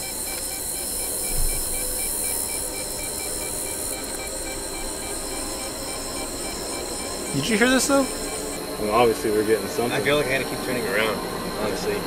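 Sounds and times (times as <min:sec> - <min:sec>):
faint high-pitched pulsing: 0:00.0 - 0:12.0.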